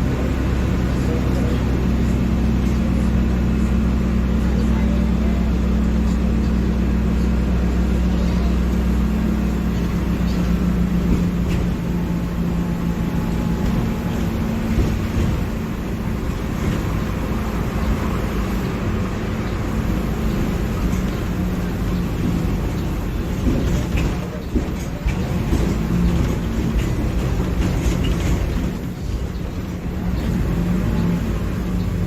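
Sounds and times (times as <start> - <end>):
diesel bus engine running: 0.0 - 32.0.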